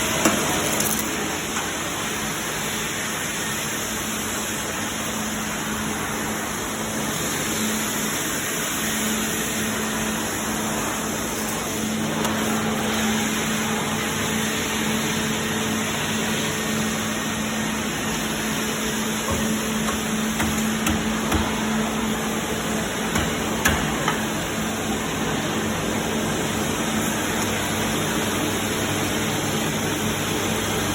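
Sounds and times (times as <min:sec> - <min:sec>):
dust extractor humming: 0:00.0 - 0:30.9.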